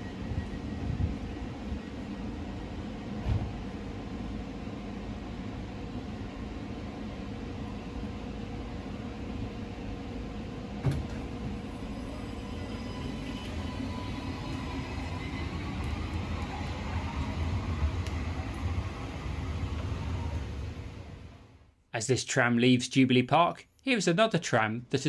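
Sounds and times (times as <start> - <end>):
tram rumbling and humming: 0.0 - 21.8.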